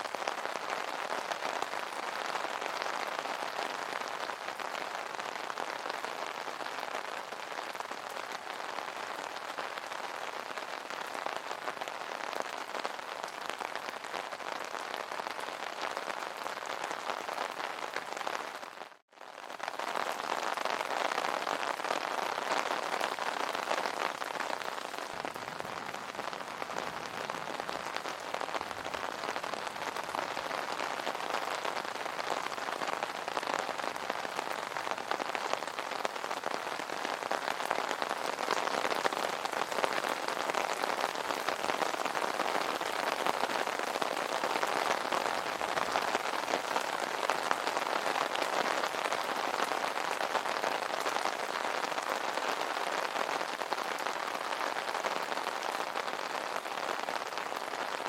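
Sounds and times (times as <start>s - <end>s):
rain pattering on umbrella: 0.0s - 58.0s.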